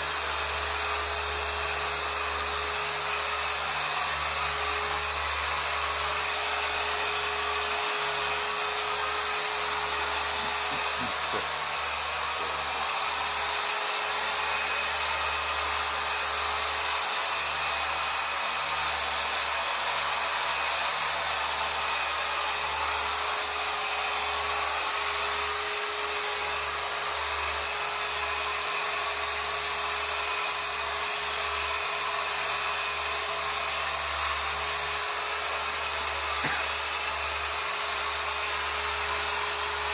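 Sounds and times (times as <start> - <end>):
cleaning machine motor humming: 0.0 - 26.4, 32.3 - 39.9.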